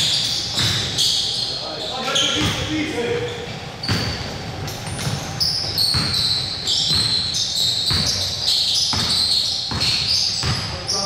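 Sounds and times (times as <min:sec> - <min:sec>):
basketball bouncing on court: 0:00.0 - 0:01.1, 0:02.2 - 0:02.7, 0:03.6 - 0:11.0
sneakers squeaking on court: 0:00.0 - 0:11.0.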